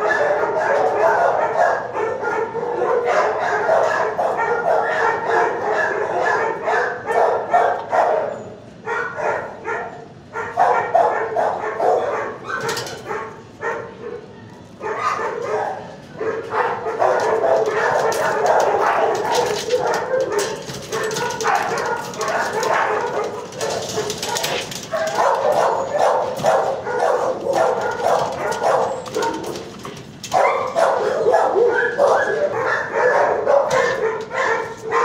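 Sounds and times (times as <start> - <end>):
dogs barking: 0.0 - 35.0.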